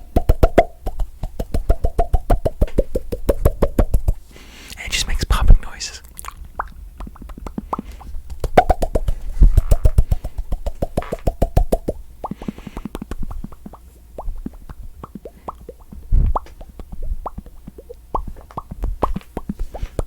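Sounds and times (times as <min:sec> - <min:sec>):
mouth popping: 0:00.0 - 0:04.2, 0:05.3 - 0:20.0.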